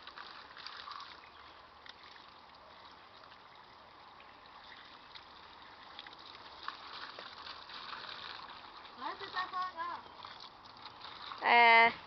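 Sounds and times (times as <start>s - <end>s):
garden hose spraying water: 0.0s - 12.0s.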